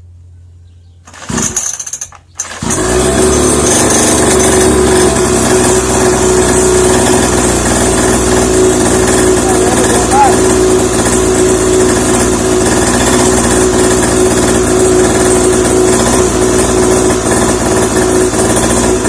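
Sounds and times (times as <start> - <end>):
dirt bike engine starting and idling: 0.9 - 19.0.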